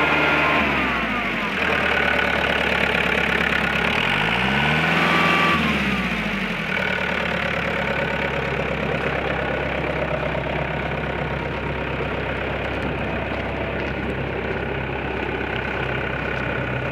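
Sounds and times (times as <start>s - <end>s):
diesel engine revving and idling: 0.0s - 16.9s.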